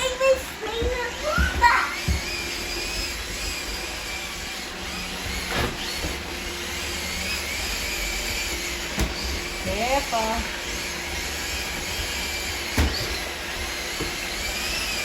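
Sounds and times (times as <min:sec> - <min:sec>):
robot vacuum whirring: 0:00.0 - 0:15.0.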